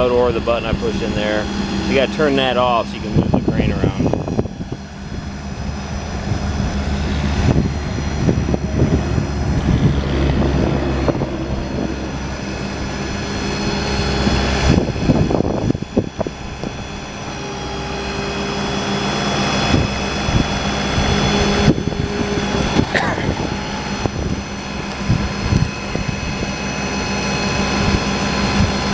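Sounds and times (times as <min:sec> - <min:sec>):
hydraulic crane droning with whine: 0:00.0 - 0:28.9.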